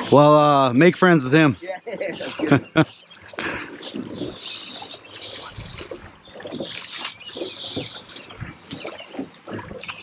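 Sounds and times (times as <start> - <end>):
water swishing around boat: 0.0 - 10.0.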